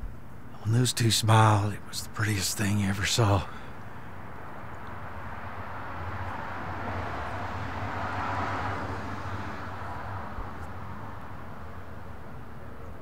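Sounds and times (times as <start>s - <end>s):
traffic hum: 0.0s - 13.0s
vehicle passing: 0.6s - 12.8s.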